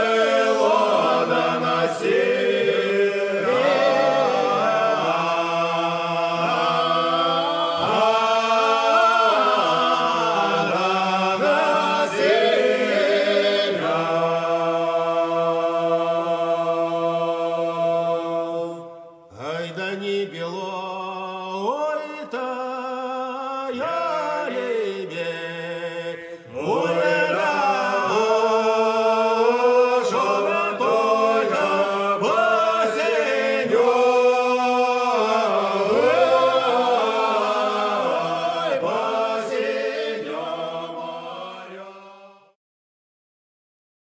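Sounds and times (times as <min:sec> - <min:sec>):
choir singing in harmony: 0:00.0 - 0:42.6.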